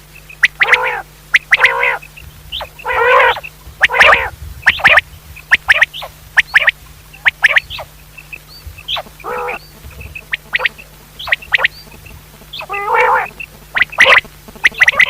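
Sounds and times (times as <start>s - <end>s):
low steady hum: 0.0s - 15.0s
quail calling: 0.2s - 15.0s
lower raspy call: 0.4s - 8.0s, 8.9s - 11.9s, 12.5s - 15.0s.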